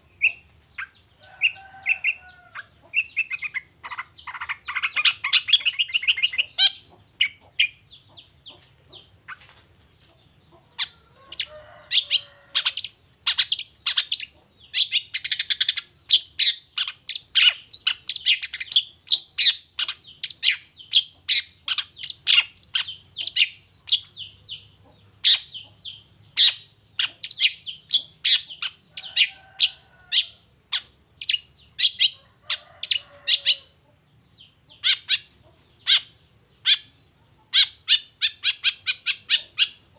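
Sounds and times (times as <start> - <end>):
shrike chirping song: 0.0 - 9.5, 10.5 - 39.9.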